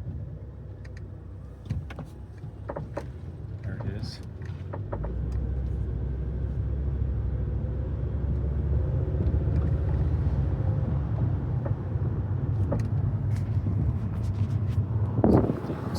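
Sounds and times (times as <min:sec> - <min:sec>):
car engine rumbling: 0:00.0 - 0:15.9.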